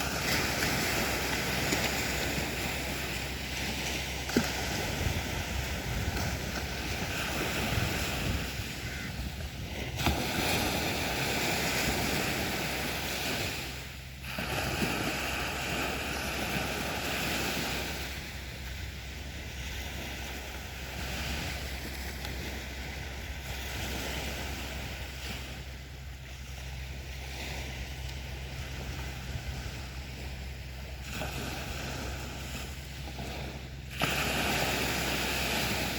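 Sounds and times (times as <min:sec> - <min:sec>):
sea waves breaking on a beach: 0:00.0 - 0:35.9.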